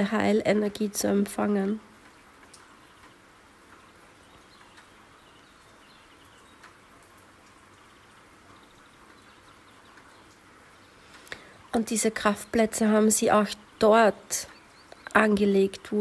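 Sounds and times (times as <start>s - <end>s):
faint steady rain: 0.0s - 16.0s
drips: 0.8s - 16.0s.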